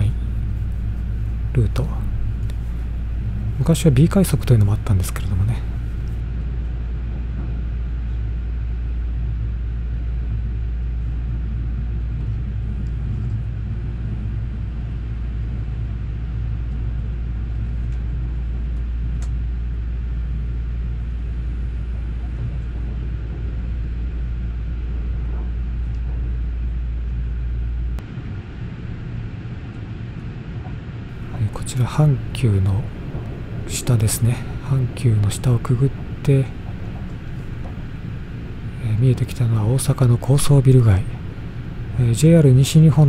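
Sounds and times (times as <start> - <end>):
train rumbling inside passenger car: 0.0 - 43.0.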